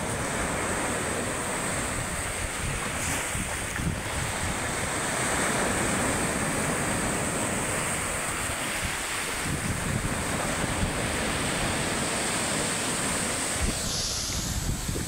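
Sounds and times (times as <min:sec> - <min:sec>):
waves breaking on pebble beach: 0:00.0 - 0:15.0
wind buffeting microphone: 0:00.0 - 0:15.0.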